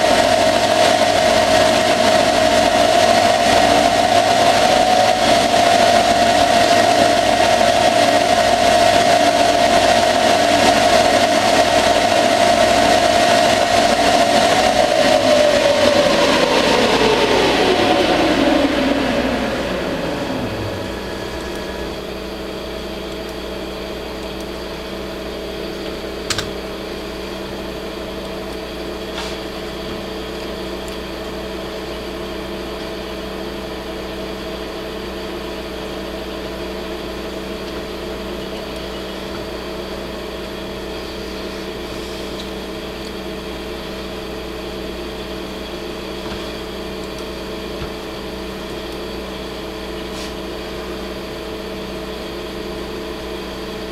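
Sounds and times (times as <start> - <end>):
falling whine: 0.0 - 53.9
lathe humming: 0.0 - 53.9.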